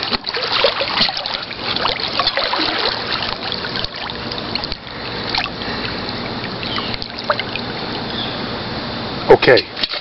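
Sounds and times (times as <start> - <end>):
small water splashes: 0.0 - 8.6
pool water lapping and trickling: 0.0 - 10.0.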